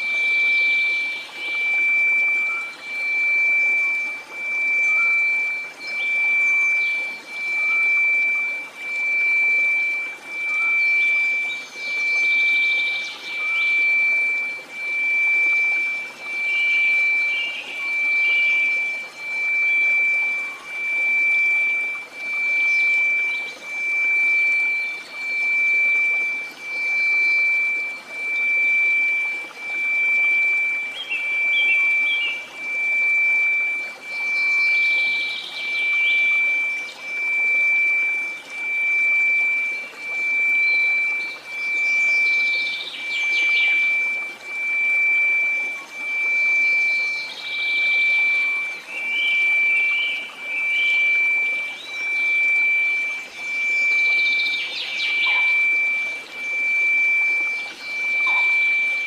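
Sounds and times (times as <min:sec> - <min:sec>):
faint high chirps: 0:00.0 - 0:59.0
pure sine tone: 0:00.0 - 0:59.0.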